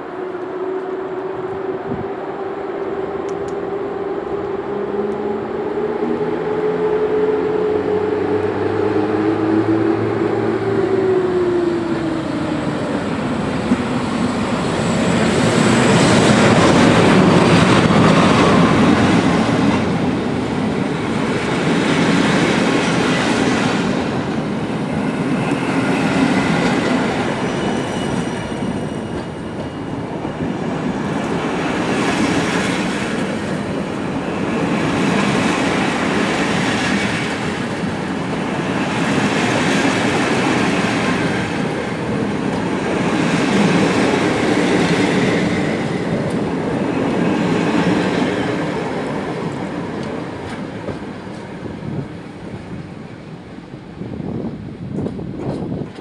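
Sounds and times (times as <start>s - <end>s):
coach wheels on rails: 0.0s - 56.0s
electric locomotive hum: 0.0s - 56.0s.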